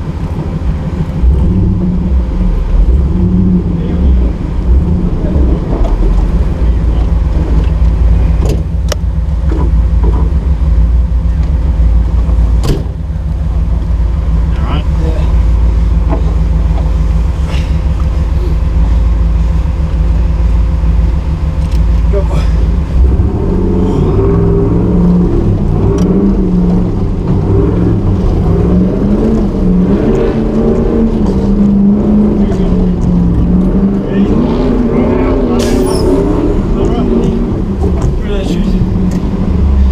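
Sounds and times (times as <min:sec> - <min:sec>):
engine running under load: 0:00.0 - 0:39.9.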